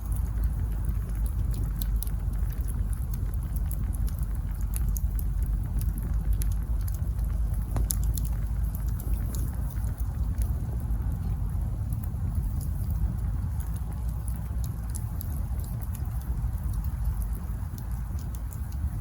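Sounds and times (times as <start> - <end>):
campfire crackling and popping: 0.0 - 19.0
low rumble of fire: 0.0 - 19.0.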